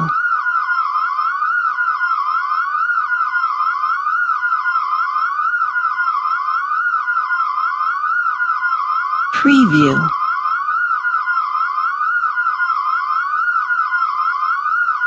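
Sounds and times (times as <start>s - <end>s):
warbling alarm siren: 0.0s - 9.3s, 9.9s - 15.0s.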